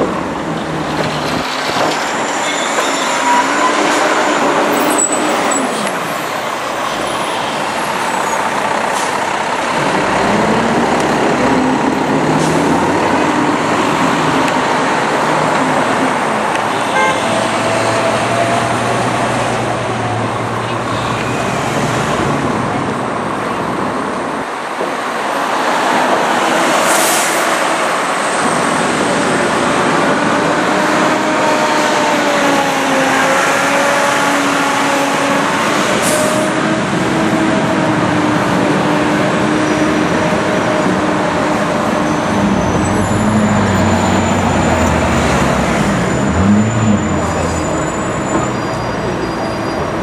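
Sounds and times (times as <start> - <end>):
traffic engine drone: 0.0 - 50.0.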